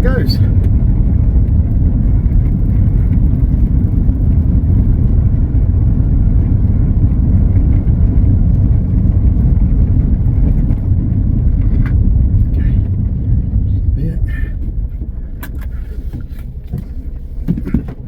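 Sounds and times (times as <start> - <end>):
road noise: 0.0 - 18.0
van engine drone: 0.0 - 18.0.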